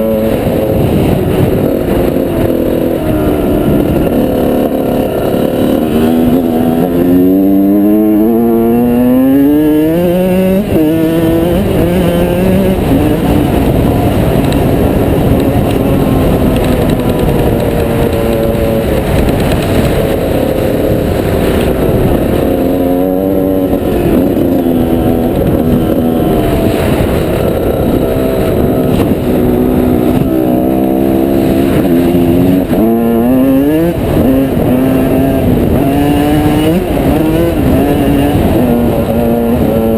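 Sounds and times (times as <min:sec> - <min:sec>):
off-road engine revving: 0:00.0 - 0:39.9.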